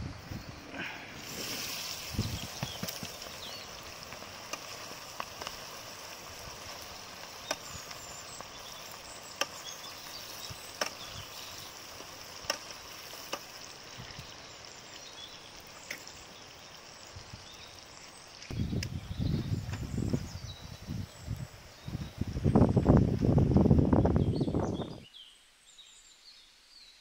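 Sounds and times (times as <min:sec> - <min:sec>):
onions sizzling in oil: 0:00.2 - 0:22.3.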